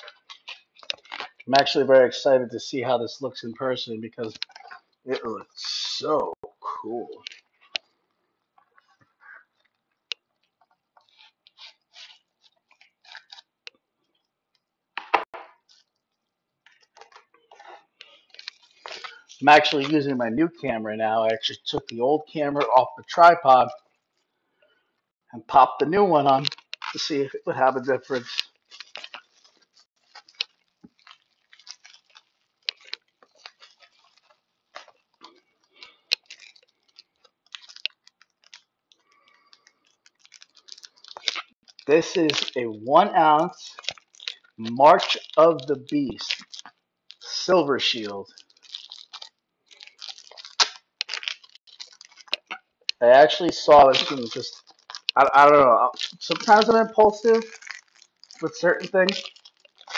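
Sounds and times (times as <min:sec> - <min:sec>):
bubble wrap crunch: 0:00.0 - 0:24.3, 0:25.5 - 0:59.9.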